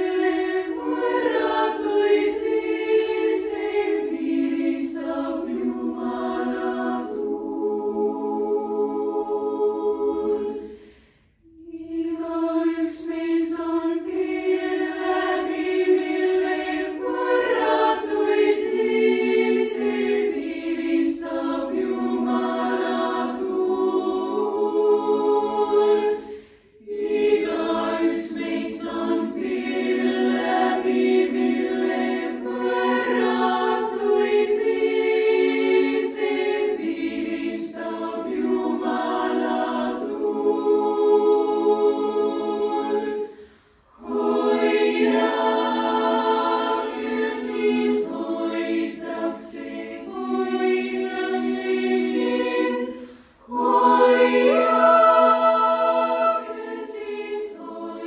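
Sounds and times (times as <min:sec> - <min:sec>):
girls' choir singing a cappella: 0:00.0 - 0:58.0.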